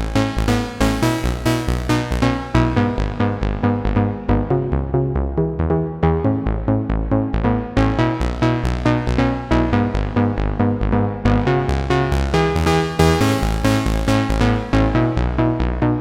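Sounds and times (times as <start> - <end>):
synthesizer electronic pattern: 0.0 - 16.0.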